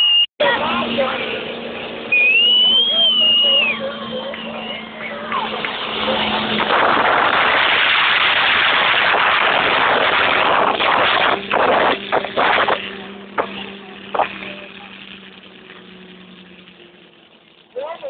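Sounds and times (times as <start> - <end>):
truck engine roaring: 0.0 - 18.0.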